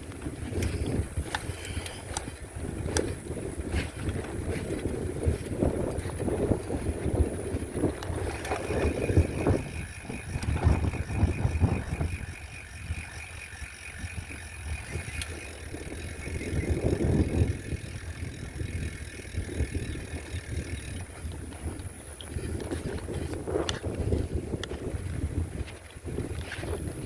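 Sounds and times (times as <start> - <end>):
bicycle freewheel ticking: 0.0 - 27.0
wind buffeting microphone: 0.0 - 27.0.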